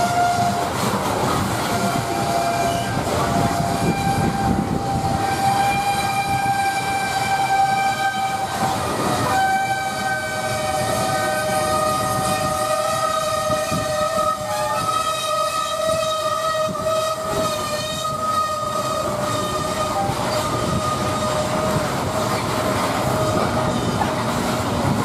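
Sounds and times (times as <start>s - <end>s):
train wheels rumbling on rail: 0.0s - 25.0s
wheels squealing on curve: 0.0s - 25.0s.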